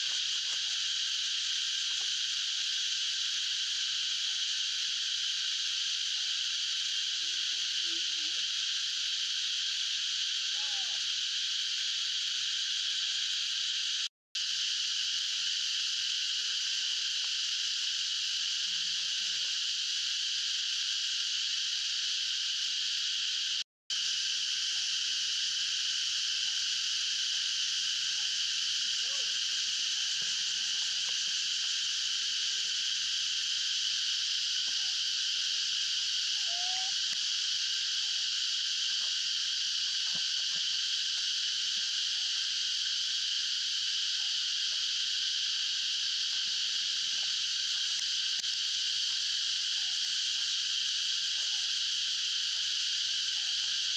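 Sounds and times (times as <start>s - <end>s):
chorus of insects or frogs: 0.0s - 53.9s.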